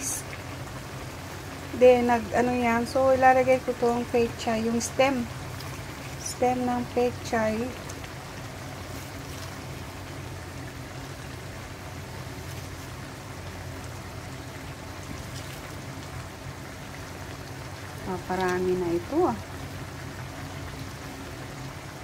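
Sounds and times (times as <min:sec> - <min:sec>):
stew simmering in pan: 0:00.0 - 0:22.0.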